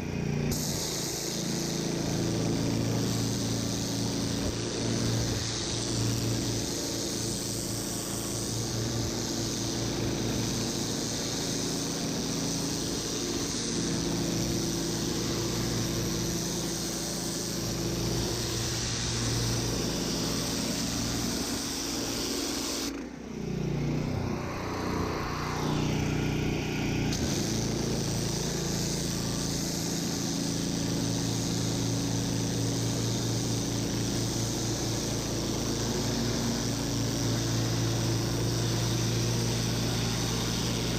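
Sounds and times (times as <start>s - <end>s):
high-pressure water spraying on paving: 0.0s - 40.9s
pressure washer motor: 0.0s - 40.9s.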